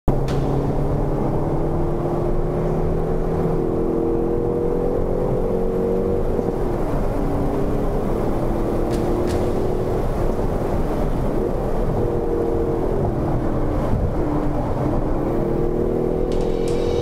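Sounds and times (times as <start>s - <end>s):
car engine and exhaust: 0.1s - 17.0s
road rumble: 0.1s - 17.0s.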